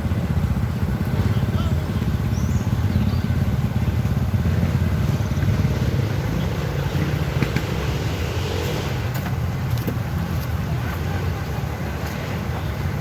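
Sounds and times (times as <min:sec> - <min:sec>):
motorcycle engines running: 0:00.0 - 0:13.0.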